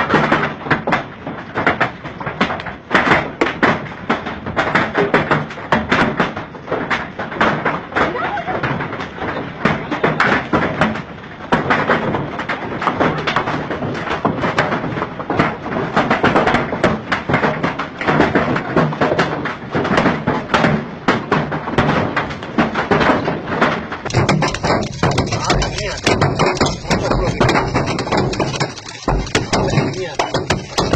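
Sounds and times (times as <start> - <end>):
heavy rain pelting hard surface: 0.0 - 30.9.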